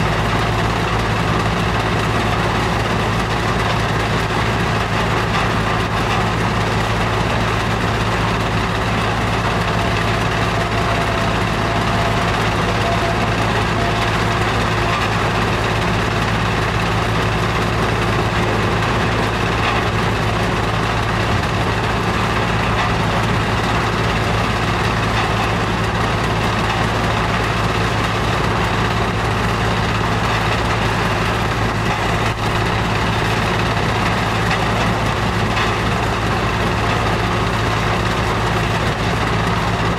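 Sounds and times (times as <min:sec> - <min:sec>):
diesel engine hum: 0:00.0 - 0:39.9
screen and conveyors working: 0:05.8 - 0:38.3.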